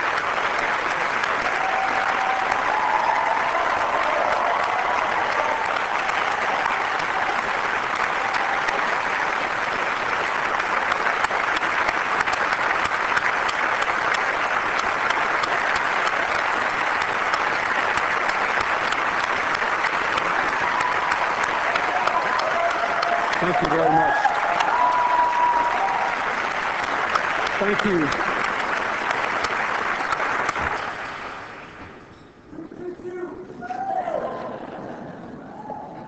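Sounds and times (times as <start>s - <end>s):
audience applauding: 0.0s - 32.1s.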